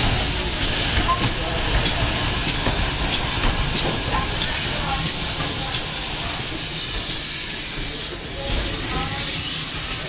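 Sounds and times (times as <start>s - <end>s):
steam locomotive hissing: 0.0s - 10.0s
train wheels clicking: 0.0s - 10.0s.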